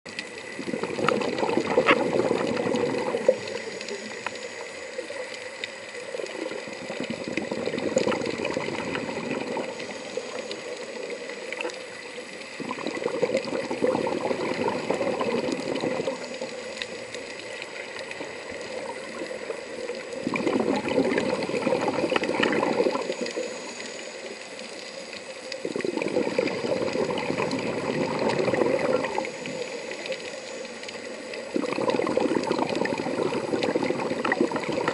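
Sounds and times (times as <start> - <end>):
quiet regulator hiss: 0.1 - 34.9
underwater exhaust bubbles: 0.1 - 34.9.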